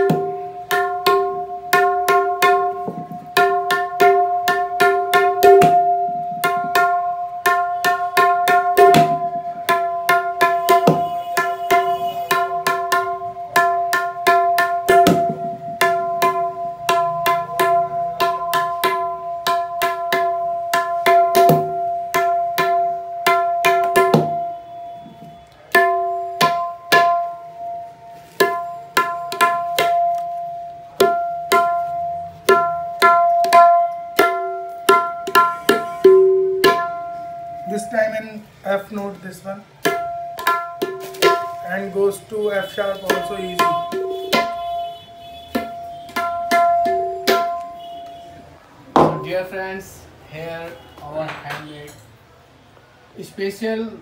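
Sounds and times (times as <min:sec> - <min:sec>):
tabla strokes: 0:00.0 - 0:37.9, 0:39.8 - 0:49.5.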